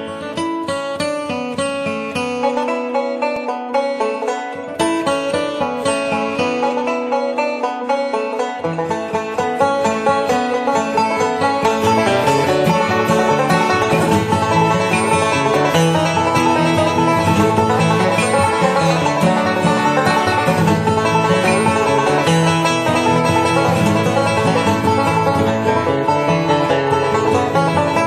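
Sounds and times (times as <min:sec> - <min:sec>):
country music with banjo and guitar: 0:00.0 - 0:28.0.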